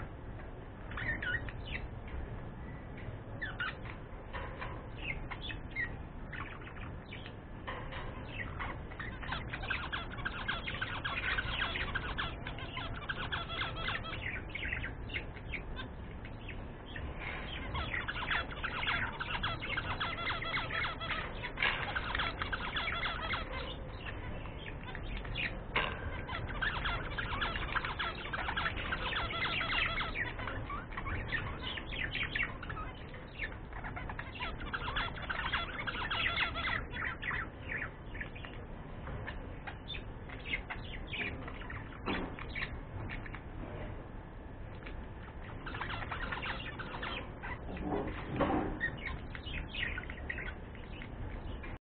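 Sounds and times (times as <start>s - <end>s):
budgerigars chattering and warbling: 0.9s - 1.9s, 3.3s - 51.8s.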